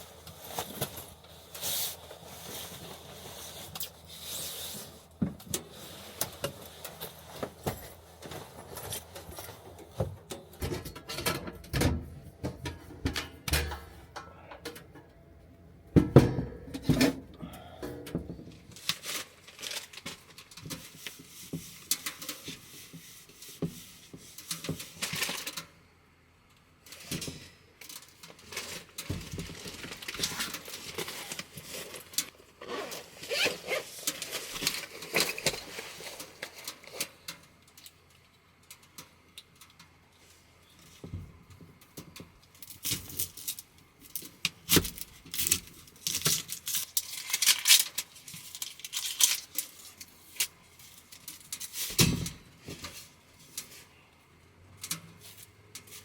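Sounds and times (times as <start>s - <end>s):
rustling and crinkling: 0.0s - 14.2s, 16.0s - 25.7s, 26.8s - 56.0s.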